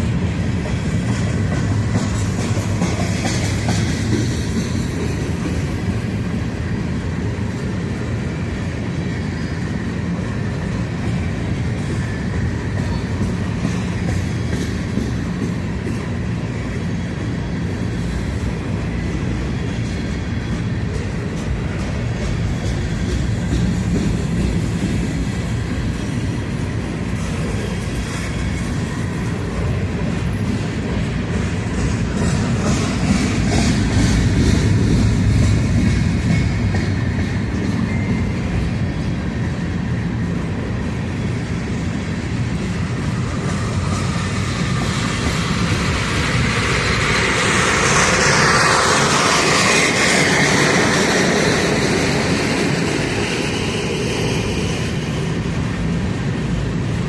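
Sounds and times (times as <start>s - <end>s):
clickety-clack over rail joints: 0.0s - 57.0s
freight train wheels rumbling: 0.0s - 57.0s.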